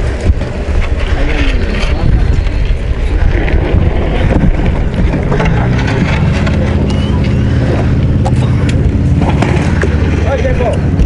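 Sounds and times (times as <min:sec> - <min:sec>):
steady low hum: 0:00.0 - 0:11.0
wind buffeting microphone: 0:00.0 - 0:11.0.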